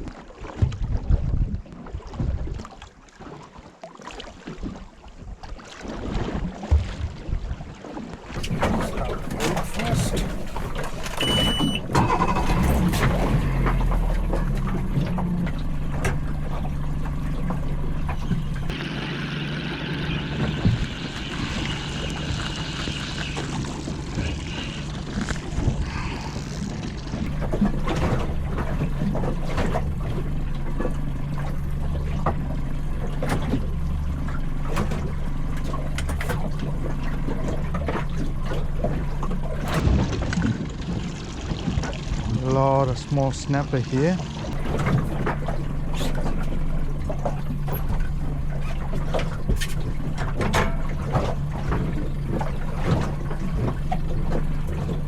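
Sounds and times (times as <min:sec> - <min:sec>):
waves slapping boat hull: 0:00.0 - 0:55.0
steady low hum: 0:08.4 - 0:40.0, 0:42.1 - 0:55.0.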